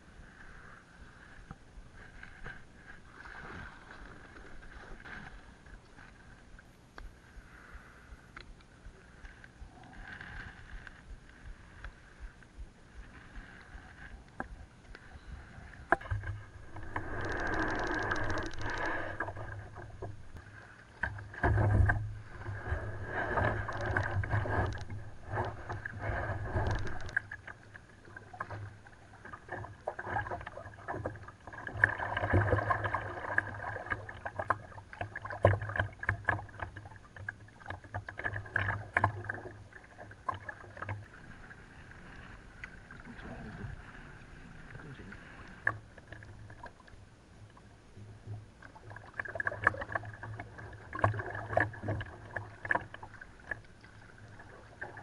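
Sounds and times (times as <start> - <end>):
paddle strokes splashing: 0.0 - 6.5, 7.1 - 47.0, 48.4 - 55.0.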